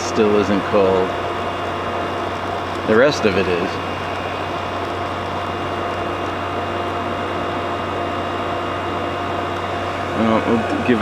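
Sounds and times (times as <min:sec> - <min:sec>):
air conditioner humming: 0:00.0 - 0:11.0
faint steady whines: 0:00.0 - 0:11.0.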